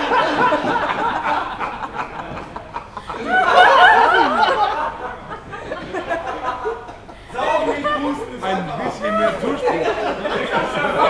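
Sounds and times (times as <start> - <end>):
people laughing: 0.0 - 11.0.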